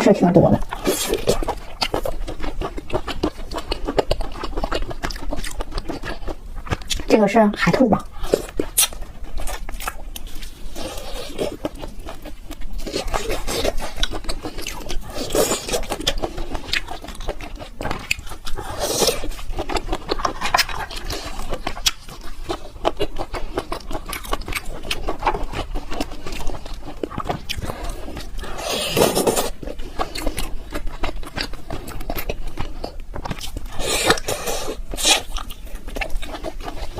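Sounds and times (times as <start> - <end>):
wet chewing with sharp clicks: 0.6 - 36.9.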